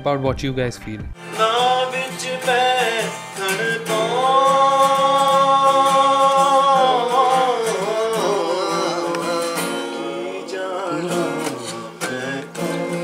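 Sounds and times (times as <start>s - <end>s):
acoustic guitar strumming: 1.2s - 13.0s
man singing: 1.2s - 13.0s.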